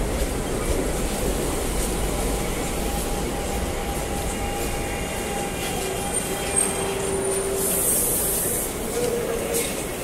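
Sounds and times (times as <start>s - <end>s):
electric train whine: 0.0s - 10.0s.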